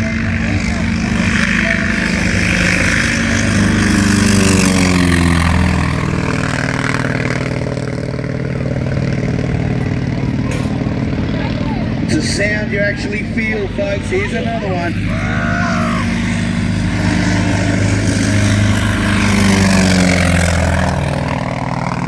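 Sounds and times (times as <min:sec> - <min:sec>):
radial engine aircraft flypast: 0:00.0 - 0:22.0.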